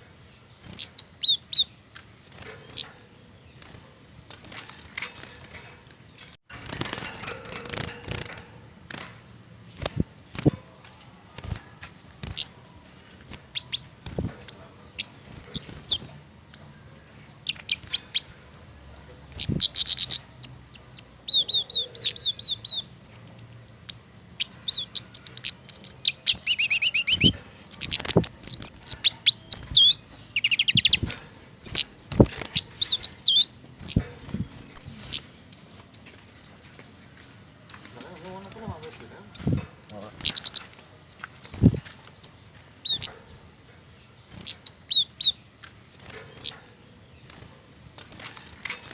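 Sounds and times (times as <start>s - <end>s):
small bird calling: 0.0s - 4.0s, 12.2s - 47.6s.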